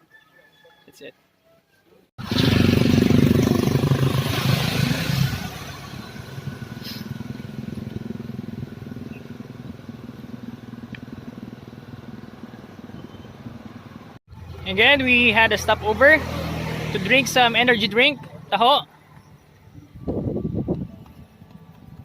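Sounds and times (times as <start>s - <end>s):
motorcycle engine running: 2.2s - 22.0s.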